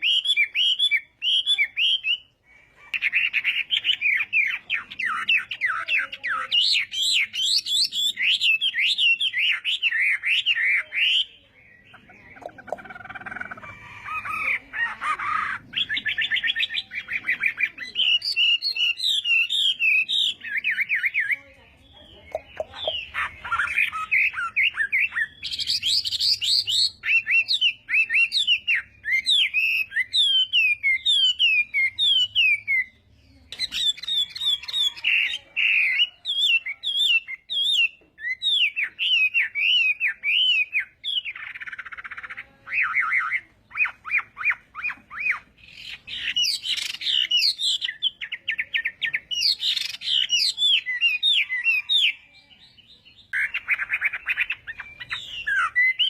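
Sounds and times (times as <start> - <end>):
bird singing whistles and trills: 0.0 - 2.3, 2.9 - 13.6, 15.2 - 21.4, 22.1 - 56.0.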